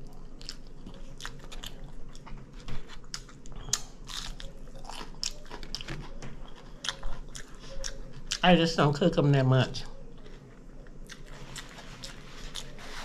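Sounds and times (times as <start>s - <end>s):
person chewing and biting: 0.0s - 8.4s, 10.1s - 13.0s.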